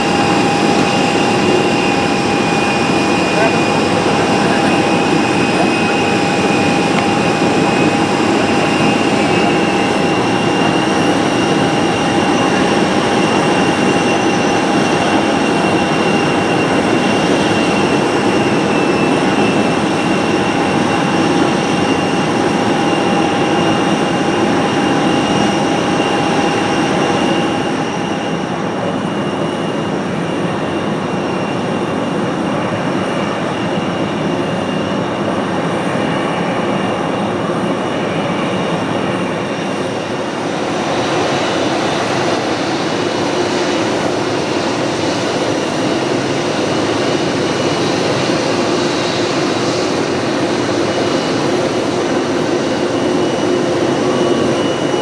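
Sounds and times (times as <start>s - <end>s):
jet engines whining while taxiing: 0.0s - 55.0s.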